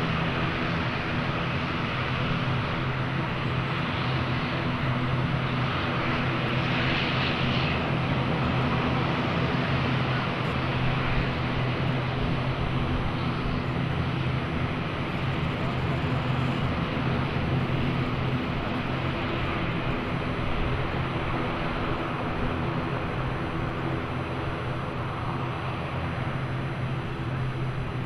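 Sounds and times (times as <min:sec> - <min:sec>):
propeller engines droning: 0:00.0 - 0:28.0.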